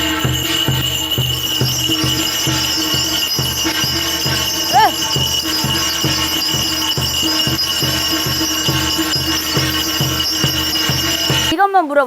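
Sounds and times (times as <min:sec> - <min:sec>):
fast drum beating: 0:00.0 - 0:11.7
ringing metallic tone: 0:00.0 - 0:11.7
jingling bells: 0:00.0 - 0:12.0.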